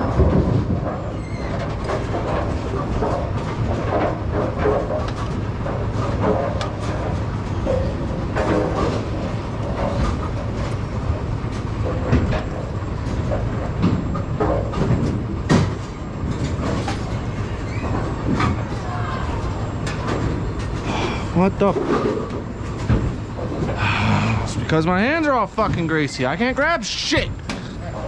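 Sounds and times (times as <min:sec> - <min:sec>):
low machinery rumble: 0:00.0 - 0:28.0.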